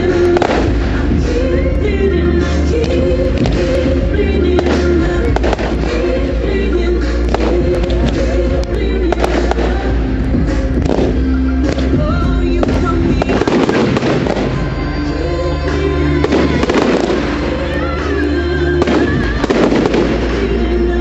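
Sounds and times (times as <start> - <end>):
fireworks bangs and crackles: 0.0 - 21.0
loud music: 0.0 - 21.0.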